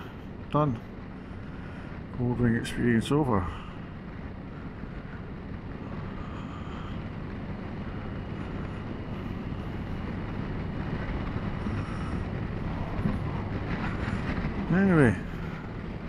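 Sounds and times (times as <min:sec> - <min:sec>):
motorcycle engine running: 0:00.0 - 0:16.0
road noise: 0:00.0 - 0:16.0
wind noise: 0:00.0 - 0:16.0.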